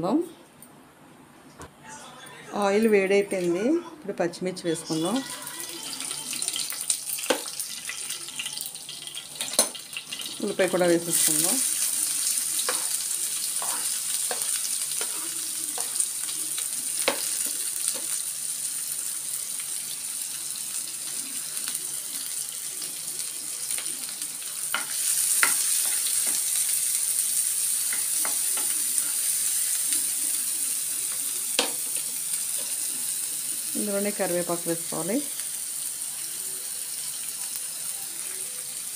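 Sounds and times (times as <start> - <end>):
onions sizzling in hot oil: 4.6 - 38.9.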